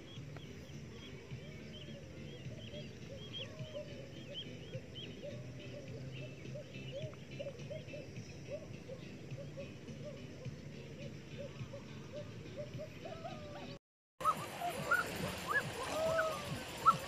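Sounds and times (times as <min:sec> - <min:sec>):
faint animal chirping: 0:01.0 - 0:17.0.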